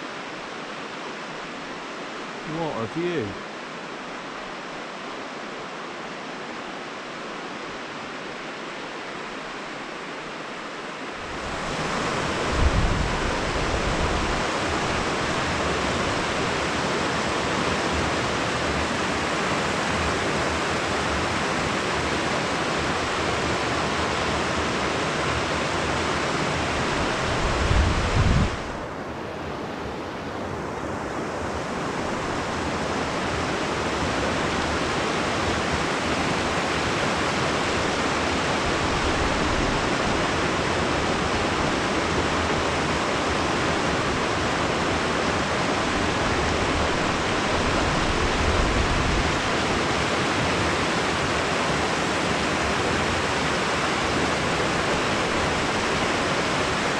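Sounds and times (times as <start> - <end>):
river water rushing: 0.0 - 56.9.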